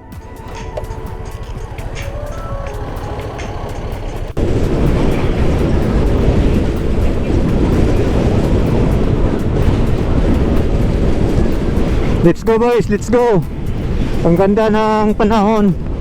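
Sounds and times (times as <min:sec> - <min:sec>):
steady vehicle noise: 0:00.0 - 0:16.0
wind and road noise on microphone: 0:00.0 - 0:16.0.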